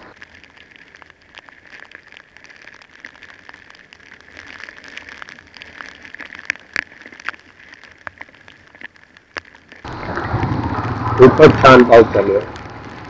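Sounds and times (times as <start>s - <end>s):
heavy rain hitting camera: 0.0s - 13.0s.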